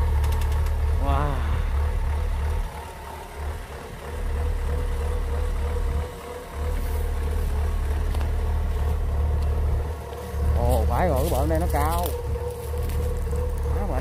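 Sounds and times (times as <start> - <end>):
combine harvester diesel engine: 0.0 - 14.0.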